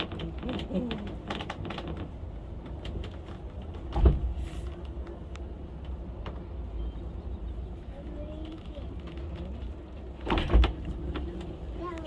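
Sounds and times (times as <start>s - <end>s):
funicular car rumbling on track: 0.0s - 12.0s.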